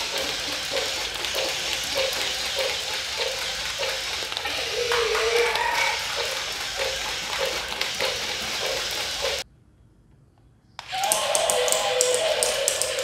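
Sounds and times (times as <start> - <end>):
toy feet clicking on tile: 0.0 - 9.4, 10.8 - 13.0
toy motor and gears whirring: 0.0 - 9.4, 10.8 - 13.0.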